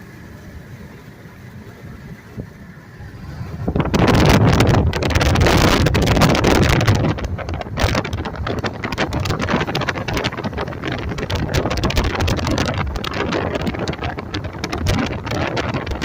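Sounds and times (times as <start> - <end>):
car driving on road: 0.0 - 16.0
wind buffeting microphone: 2.2 - 16.0.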